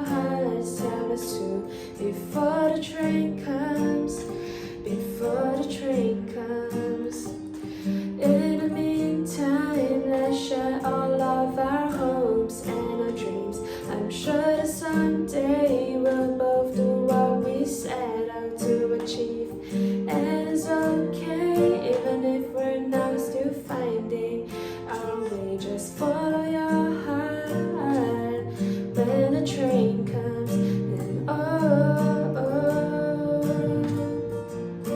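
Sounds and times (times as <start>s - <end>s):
guitar accompaniment: 0.0s - 34.9s
woman singing: 0.0s - 34.9s.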